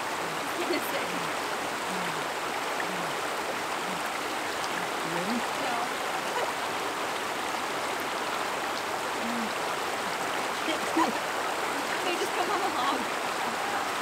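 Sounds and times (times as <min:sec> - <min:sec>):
river flowing over stones: 0:00.0 - 0:14.0.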